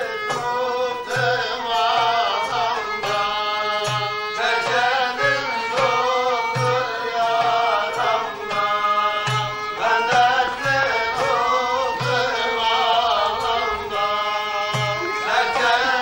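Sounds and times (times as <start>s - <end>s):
violin melody: 0.0s - 16.0s
goblet drum: 1.2s - 16.0s.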